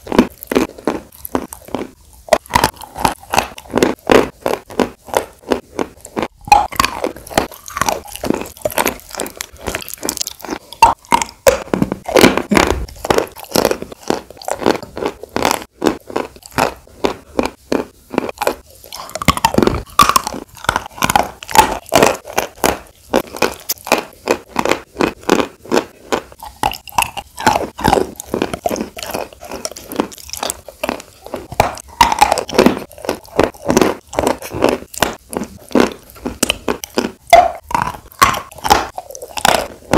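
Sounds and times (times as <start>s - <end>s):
wet crunchy chewing: 0.0s - 39.9s.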